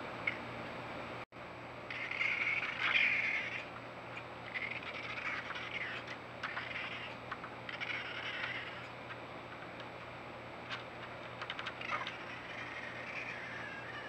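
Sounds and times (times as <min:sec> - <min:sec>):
raccoons calling: 0:01.9 - 0:14.0.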